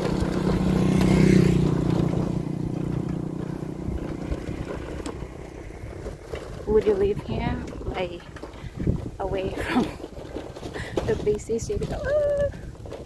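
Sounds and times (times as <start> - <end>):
small motorcycle engine: 0.0 - 11.9.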